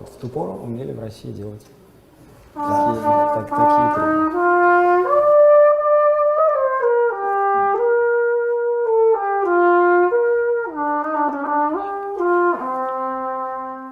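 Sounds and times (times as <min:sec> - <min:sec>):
trumpet melody: 0:02.5 - 0:13.9.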